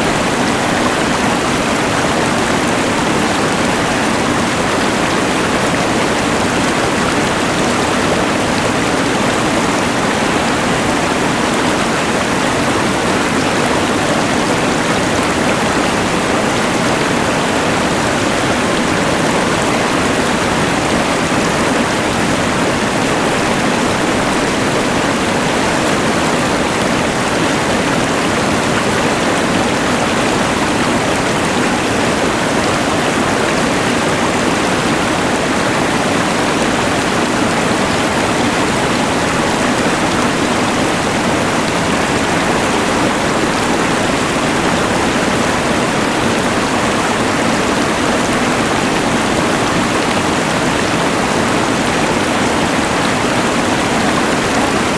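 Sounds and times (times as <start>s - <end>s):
rushing river: 0.0s - 54.9s.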